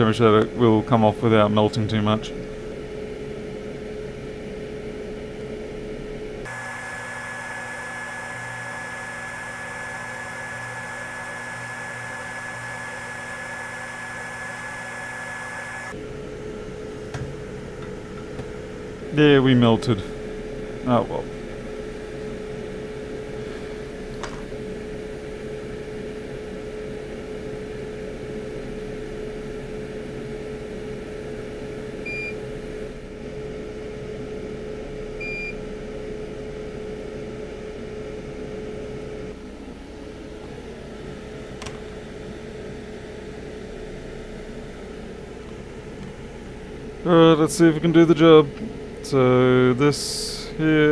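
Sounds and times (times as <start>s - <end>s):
hot air blower humming: 0.0s - 50.9s.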